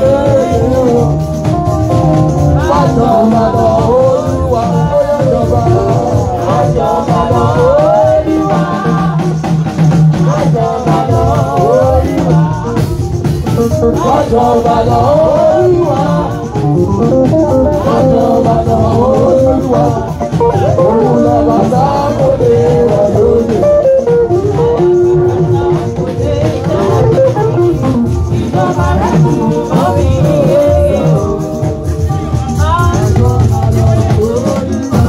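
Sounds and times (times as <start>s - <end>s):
singing over guitar: 0.0s - 35.0s.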